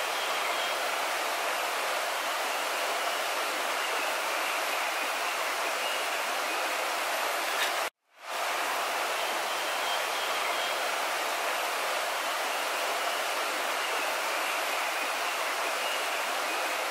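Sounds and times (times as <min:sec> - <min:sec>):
stream water flowing: 0:00.0 - 0:16.9.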